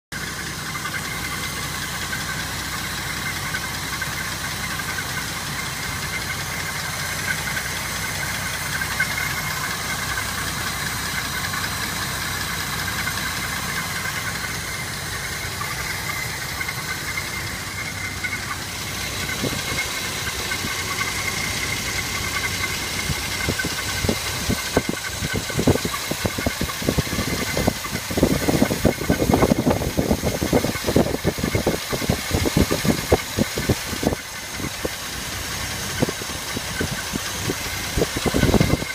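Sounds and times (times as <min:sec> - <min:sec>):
car engine idling with whine: 0:00.0 - 0:38.9
sharp engine ticking: 0:00.1 - 0:38.9.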